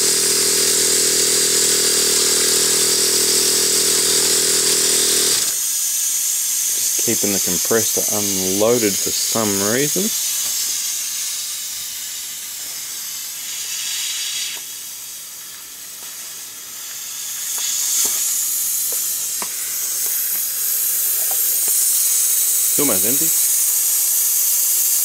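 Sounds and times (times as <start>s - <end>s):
compressed air hissing: 0.0s - 25.0s.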